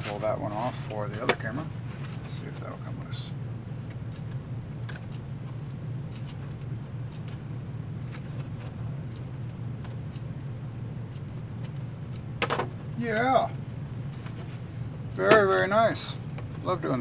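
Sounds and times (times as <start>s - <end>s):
shop machinery humming: 0.0s - 17.0s.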